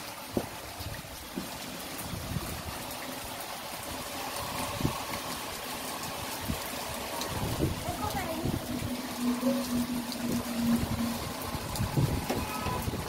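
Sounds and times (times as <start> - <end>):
heavy rain falling: 0.0 - 13.0
raindrops striking close by: 0.0 - 13.0.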